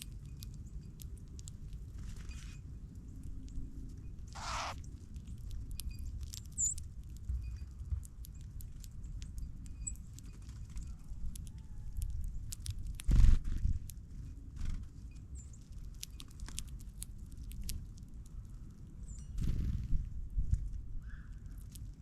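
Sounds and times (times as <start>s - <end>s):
birds pecking at seed: 0.0s - 22.0s.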